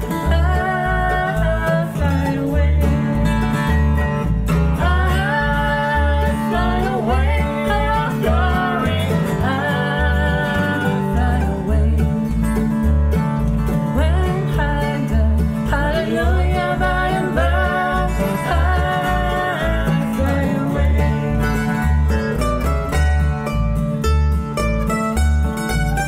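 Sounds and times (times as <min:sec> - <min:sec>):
acoustic bluegrass band playing: 0:00.0 - 0:26.0
plucked upright bass: 0:00.0 - 0:26.0.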